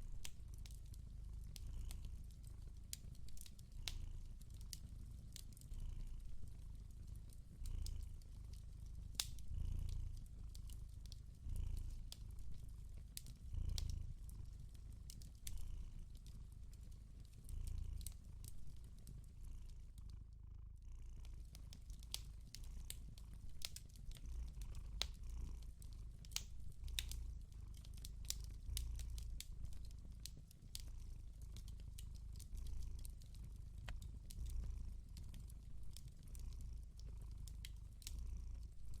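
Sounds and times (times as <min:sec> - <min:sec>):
cat purring: 0:00.0 - 0:39.0
wood fire crackling and popping: 0:00.1 - 0:20.0, 0:21.3 - 0:39.0.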